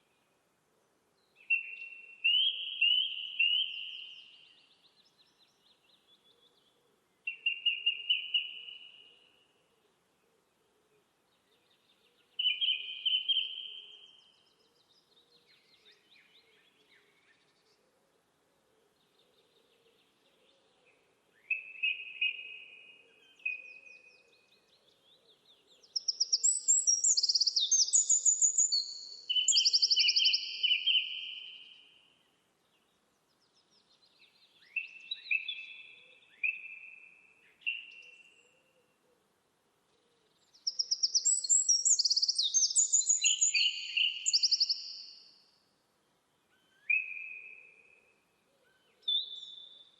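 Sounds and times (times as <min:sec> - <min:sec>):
songbirds chirping and trilling: 0:00.9 - 0:49.9.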